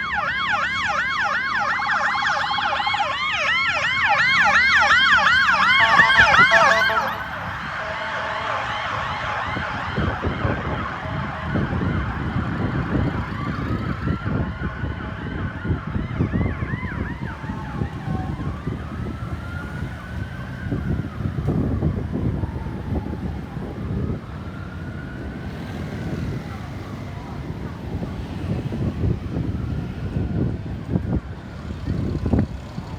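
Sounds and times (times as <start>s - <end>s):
ambulance siren yelp: 0.0s - 32.9s
faint siren wail: 0.0s - 32.9s
road traffic rumble: 0.0s - 32.9s.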